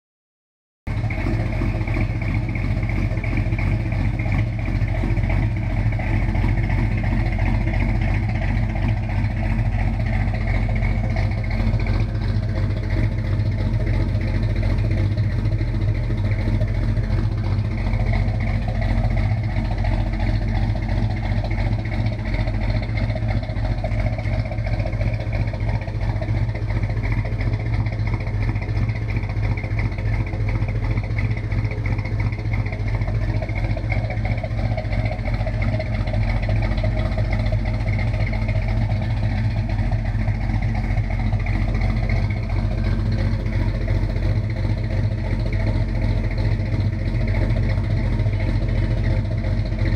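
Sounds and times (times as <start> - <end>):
car engine idling: 0.9 - 49.9.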